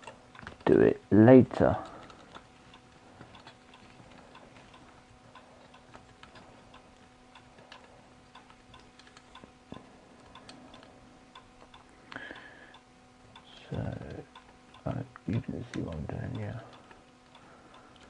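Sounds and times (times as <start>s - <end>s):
low electrical hum: 0.0s - 18.0s
faint light ticking and clicking: 1.5s - 18.0s.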